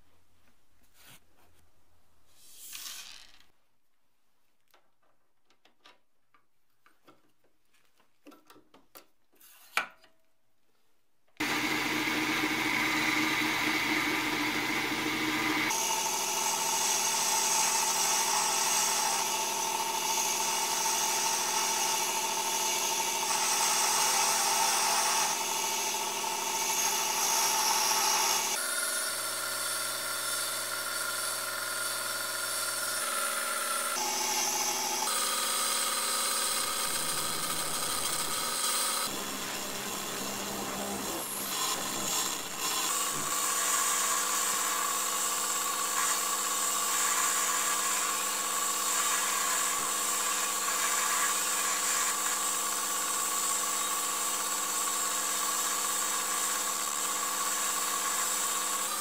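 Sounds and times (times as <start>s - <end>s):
metal lathe cutting metal bar: 11.4s - 59.0s.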